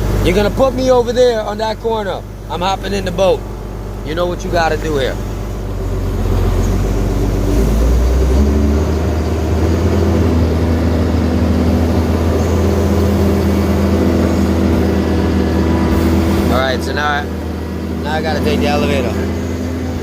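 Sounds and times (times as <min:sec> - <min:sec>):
excavator diesel engine under load: 0:00.0 - 0:20.0.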